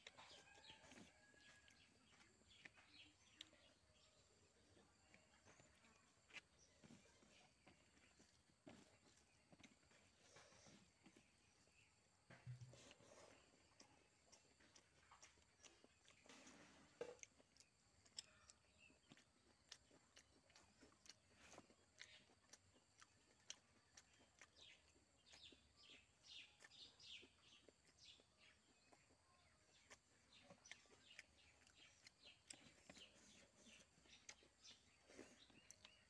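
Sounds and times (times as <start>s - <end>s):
wet chewing clicks: 0.0s - 36.0s.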